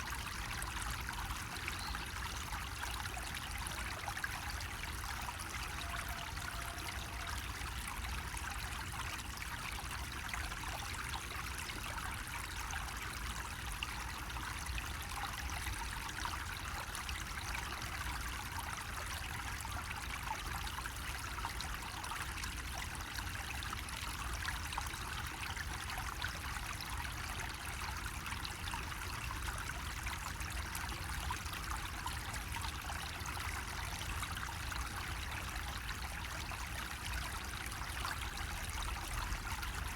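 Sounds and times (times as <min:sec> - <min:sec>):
water trickling from a faucet: 0:00.0 - 0:39.9.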